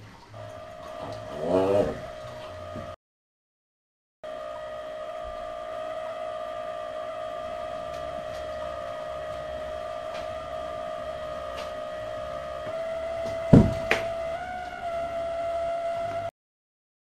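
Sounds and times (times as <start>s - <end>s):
steady high drone: 0.0s - 3.0s, 4.2s - 16.3s.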